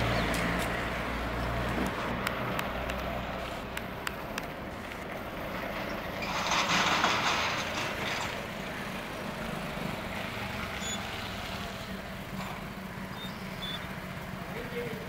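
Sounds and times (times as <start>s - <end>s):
outdoor background noise: 0.0s - 15.0s
vehicle passing: 0.0s - 15.0s.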